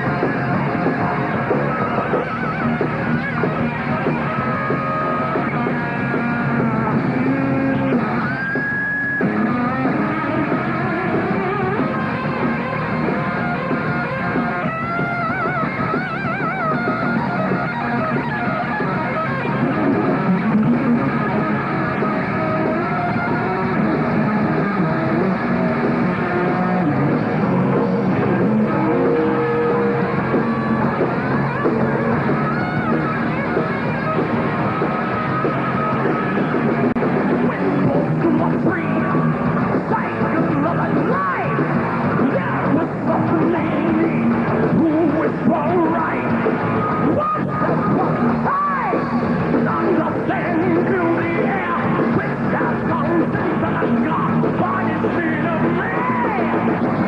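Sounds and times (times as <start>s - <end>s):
drums: 0.0s - 57.0s
electric guitars: 0.0s - 57.0s.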